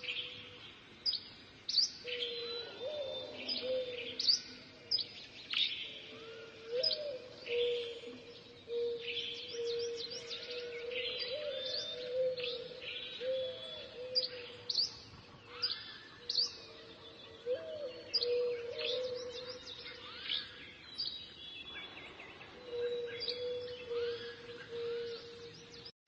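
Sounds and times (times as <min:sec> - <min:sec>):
wild birds chirping: 0:00.0 - 0:25.9.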